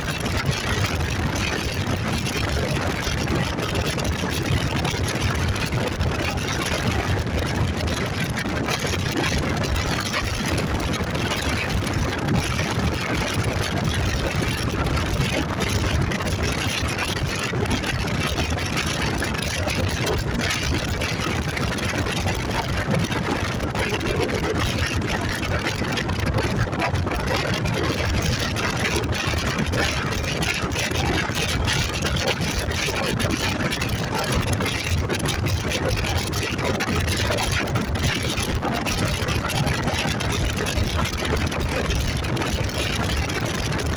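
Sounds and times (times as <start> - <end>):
rushing wind noise: 0.0 - 43.9.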